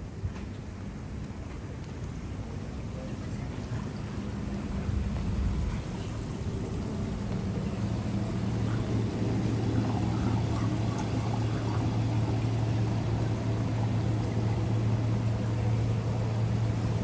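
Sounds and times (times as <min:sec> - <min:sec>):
noisy wash: 0:00.0 - 0:17.0
low engine drone: 0:00.8 - 0:17.0.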